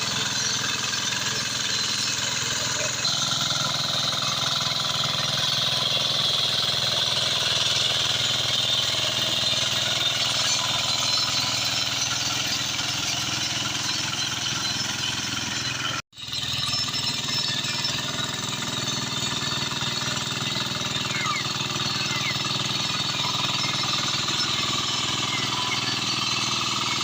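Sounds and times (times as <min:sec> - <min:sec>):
hand tractor engine running: 0:00.0 - 0:27.0.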